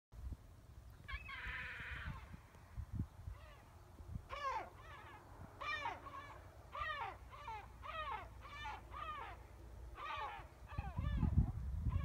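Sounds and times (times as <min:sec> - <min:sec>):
bird calling: 0:00.9 - 0:02.4, 0:03.3 - 0:12.0.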